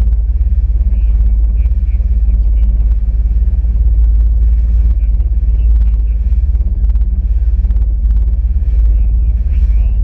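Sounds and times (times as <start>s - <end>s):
jet ski engine rumble: 0.0s - 10.0s.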